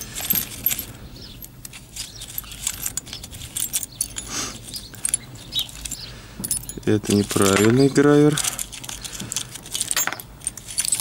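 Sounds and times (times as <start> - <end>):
washers jangling in a metal tin: 0.0 - 11.0.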